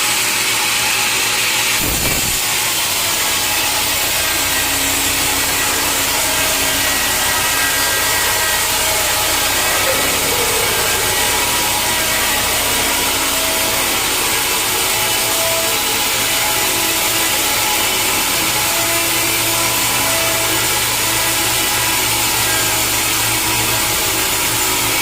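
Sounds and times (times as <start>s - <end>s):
saw cutting through log: 0.0s - 25.0s.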